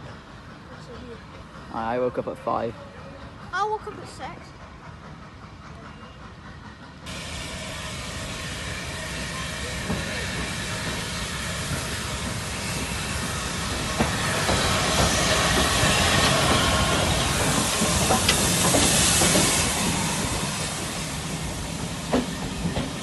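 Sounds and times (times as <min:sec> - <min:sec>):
steam locomotive hissing: 0:00.0 - 0:23.0.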